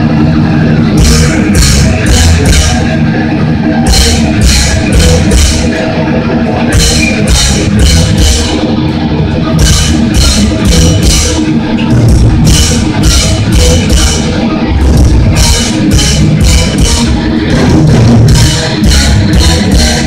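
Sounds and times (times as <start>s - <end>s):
thrash metal band playing live: 0.0s - 20.0s.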